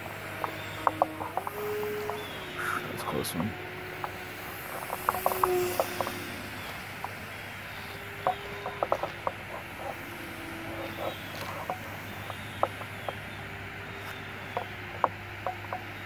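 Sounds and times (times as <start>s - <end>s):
rc airplane motor whine: 0.0s - 16.0s.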